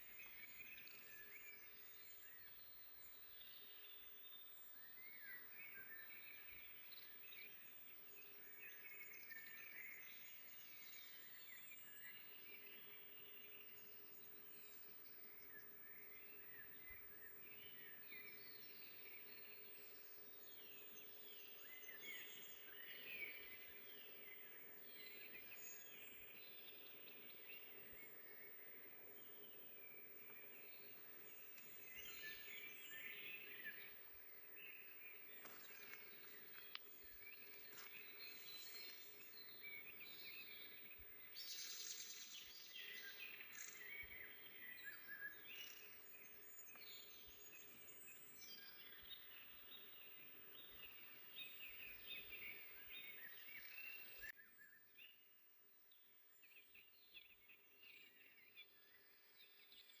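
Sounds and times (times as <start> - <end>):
small birds singing and chirping: 0.0 - 60.0.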